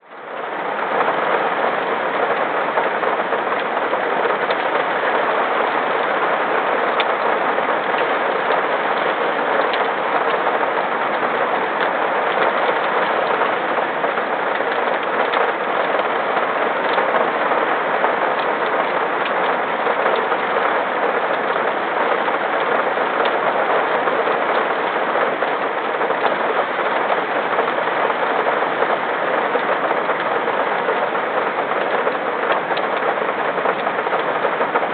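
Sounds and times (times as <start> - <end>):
raindrops ticking on surface: 0.0 - 34.9
steady rain hiss: 0.0 - 34.9.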